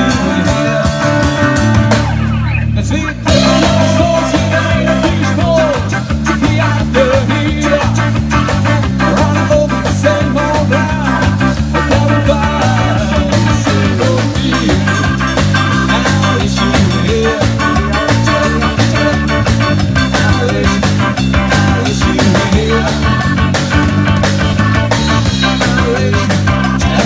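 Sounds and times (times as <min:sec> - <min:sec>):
bass line: 0:00.0 - 0:27.0
choppy off-beat guitar: 0:00.0 - 0:27.0
live ska rock band: 0:00.0 - 0:27.0.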